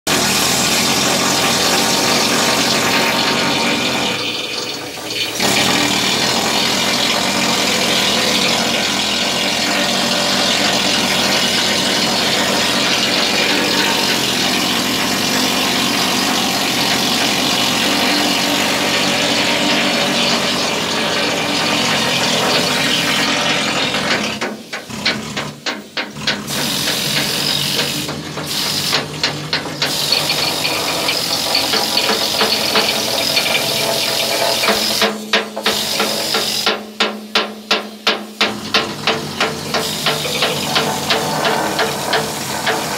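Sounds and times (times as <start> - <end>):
chipping and grinding tools on steel: 0.1 - 37.0, 37.6 - 42.9.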